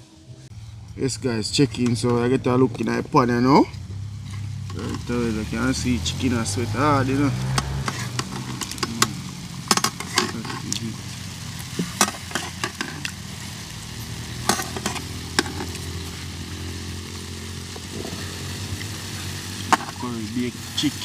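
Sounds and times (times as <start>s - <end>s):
chicken sizzling in a pan: 3.8s - 21.0s.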